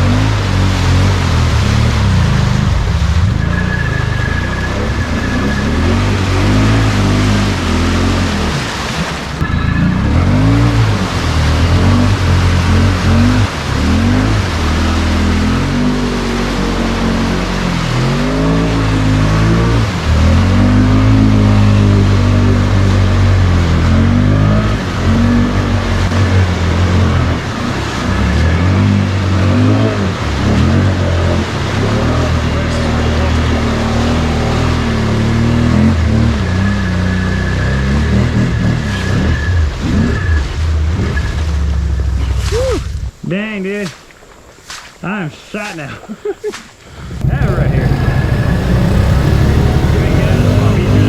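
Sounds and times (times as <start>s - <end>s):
engine revving hard: 0.0s - 42.5s, 46.9s - 51.0s.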